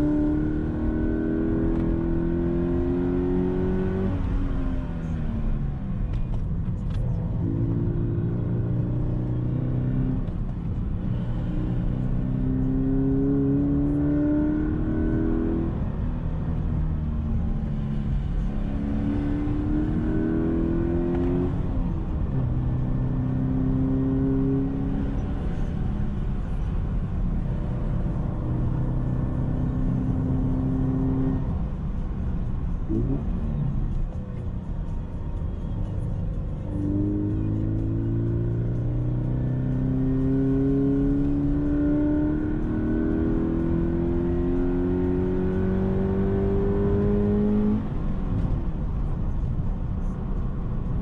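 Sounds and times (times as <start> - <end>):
car engine accelerating: 0.0 - 50.2.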